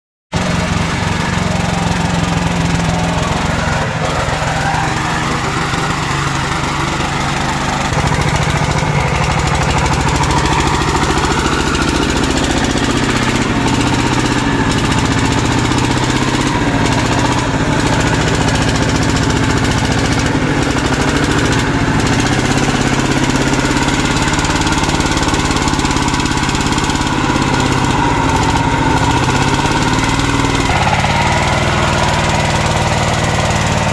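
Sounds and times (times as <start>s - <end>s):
diesel engine chugging: 0.3s - 33.9s.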